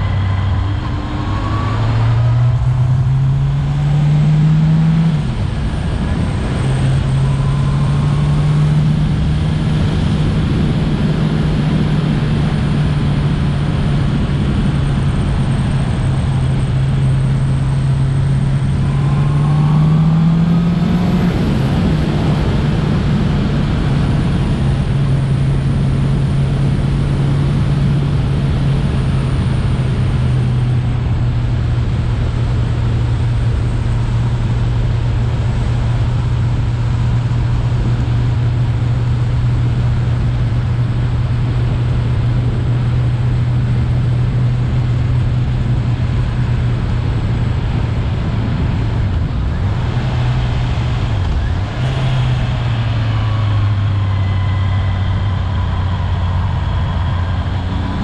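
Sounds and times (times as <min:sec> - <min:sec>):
motorcycle engine running: 0:00.0 - 0:58.0
wind rush: 0:00.0 - 0:58.0.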